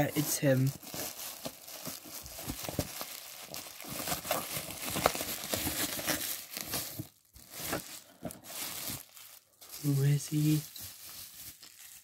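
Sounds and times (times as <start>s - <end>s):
packing wrap crinkling: 0.0s - 12.0s.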